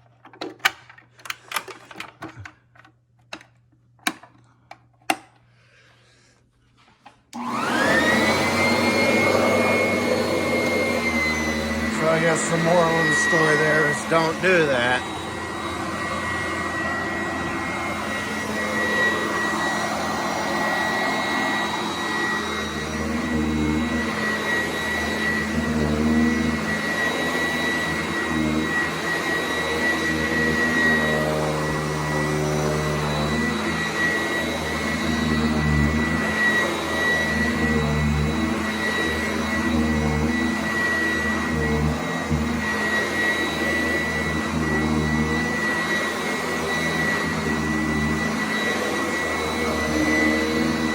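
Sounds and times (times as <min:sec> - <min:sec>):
vacuum cleaner whining: 0:06.7 - 0:50.9.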